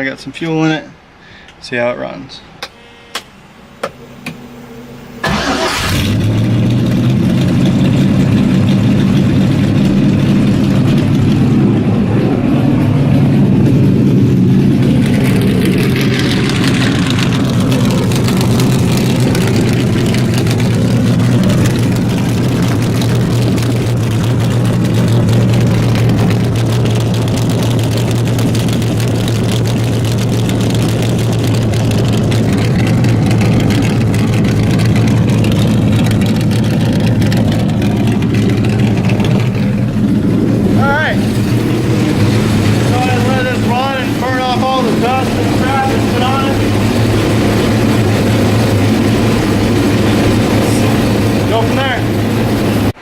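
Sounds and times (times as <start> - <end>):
car engine starting and idling: 0.0 - 53.0.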